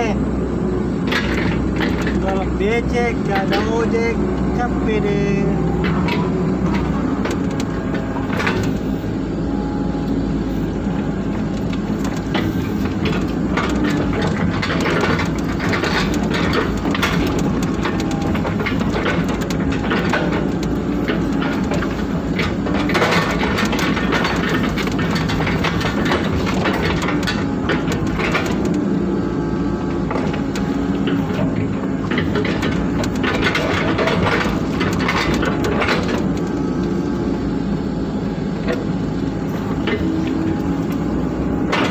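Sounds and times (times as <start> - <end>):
excavator diesel engine: 0.0 - 41.9
hydraulics working: 0.0 - 41.9.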